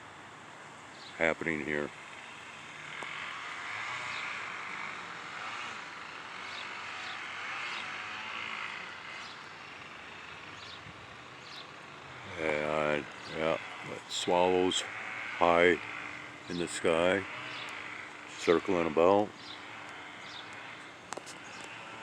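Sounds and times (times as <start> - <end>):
distant airplane engine drone: 0.0 - 22.0.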